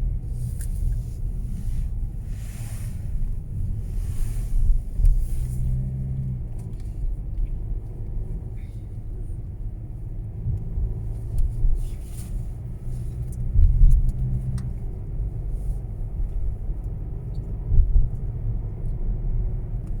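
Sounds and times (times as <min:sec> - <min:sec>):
car low rumble: 0:00.0 - 0:20.0.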